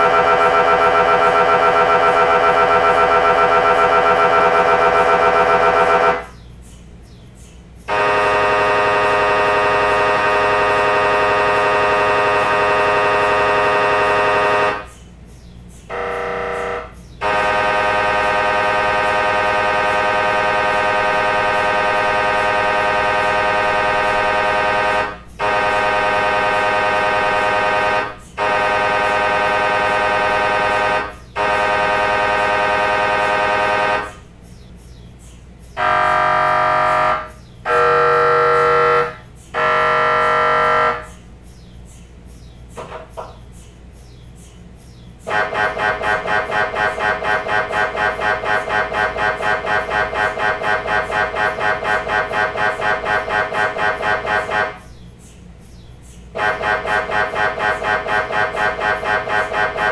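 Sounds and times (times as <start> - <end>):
mri scanner buzzing: 0.0 - 6.3, 7.9 - 15.0, 15.9 - 34.3, 35.7 - 41.2, 45.3 - 54.9, 56.4 - 59.9.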